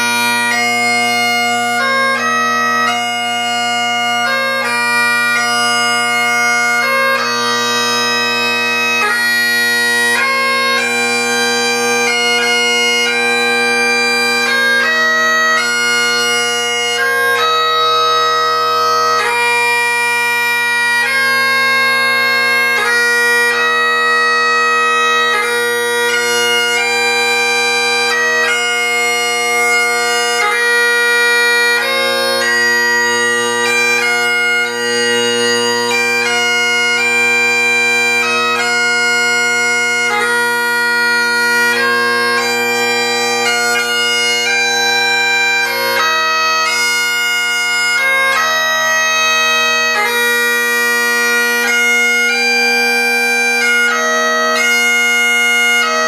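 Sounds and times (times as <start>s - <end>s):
bagpipe chanter melody: 0.0s - 56.0s
bagpipe drones: 0.0s - 56.0s.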